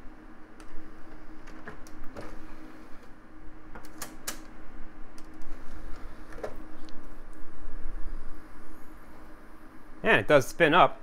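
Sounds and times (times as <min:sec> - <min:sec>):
computer cooling fans humming: 0:00.0 - 0:11.0.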